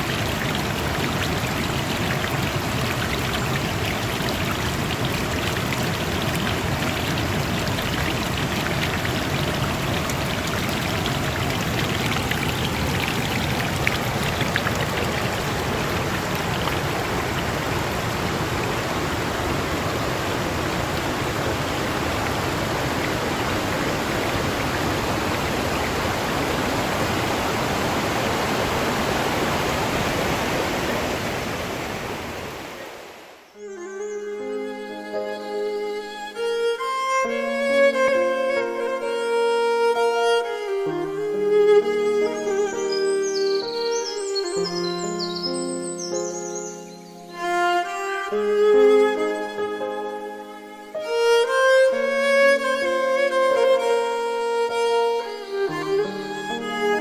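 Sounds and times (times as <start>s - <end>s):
stream water rushing: 0.0s - 33.6s, 34.2s - 57.0s.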